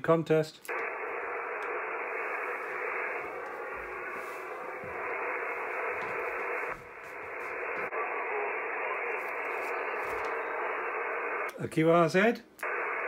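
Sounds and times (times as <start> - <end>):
radio receiver hiss: 0.6 - 13.0.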